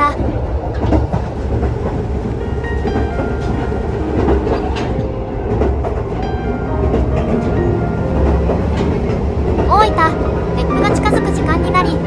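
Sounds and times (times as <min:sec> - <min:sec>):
train low rumble: 0:00.0 - 0:12.0
wheels clicking over track: 0:00.0 - 0:12.0.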